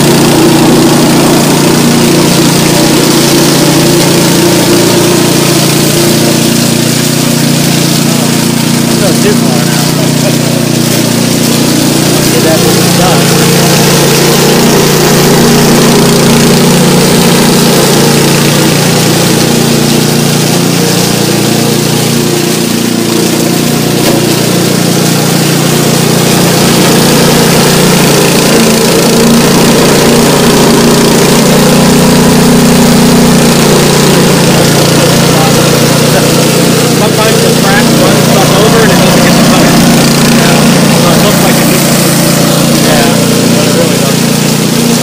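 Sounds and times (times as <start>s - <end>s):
lawn mower engine humming: 0.0s - 45.0s.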